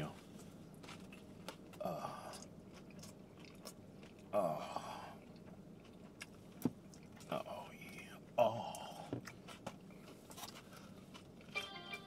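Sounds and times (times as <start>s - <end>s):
person chewing food: 0.1s - 12.0s.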